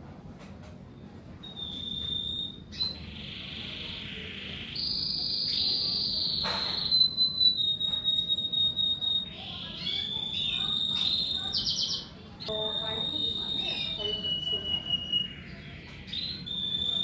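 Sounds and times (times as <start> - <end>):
canary singing trills: 1.4 - 17.0.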